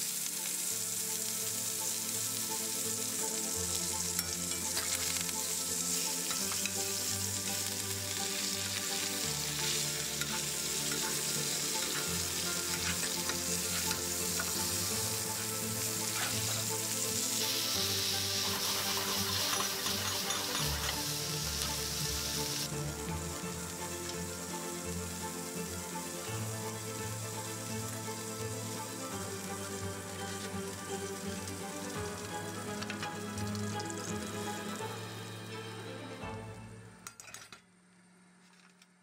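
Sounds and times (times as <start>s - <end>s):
steaks sizzling in butter: 0.0s - 34.9s.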